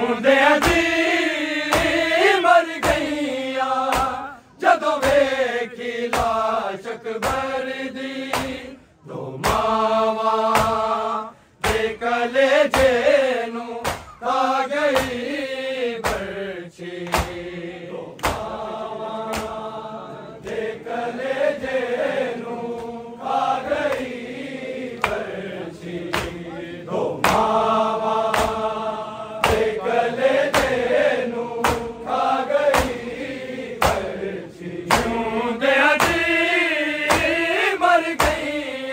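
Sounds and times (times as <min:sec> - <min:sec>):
male voices chanting a lament: 0:00.0 - 0:38.9
sharp slaps keeping the beat: 0:00.3 - 0:08.8, 0:09.4 - 0:19.8, 0:20.4 - 0:38.9.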